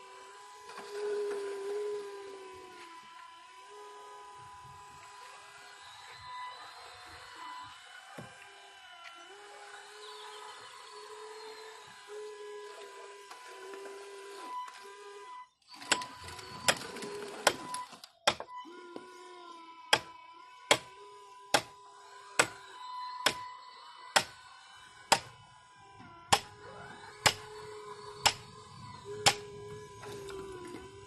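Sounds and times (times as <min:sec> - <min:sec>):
hydraulic pump whining: 0:00.0 - 0:31.0.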